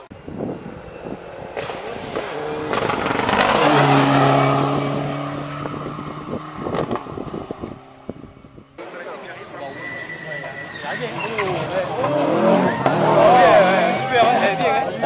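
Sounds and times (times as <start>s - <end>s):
rally car passing at speed: 0.2s - 15.0s.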